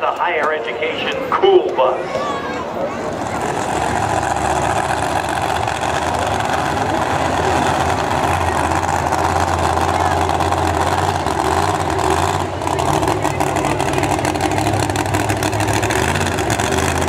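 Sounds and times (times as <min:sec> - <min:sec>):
truck engine running at low revs: 0:02.8 - 0:17.0.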